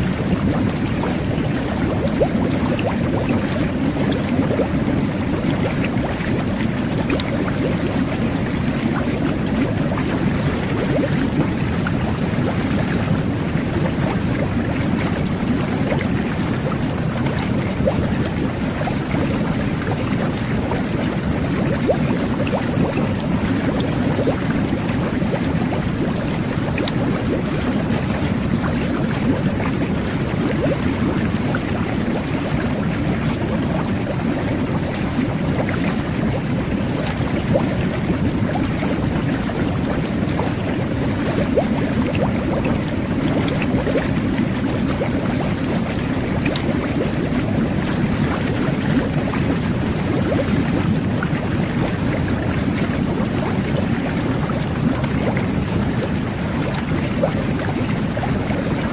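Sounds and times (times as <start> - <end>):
whirlpool jets churning water: 0.0 - 58.9.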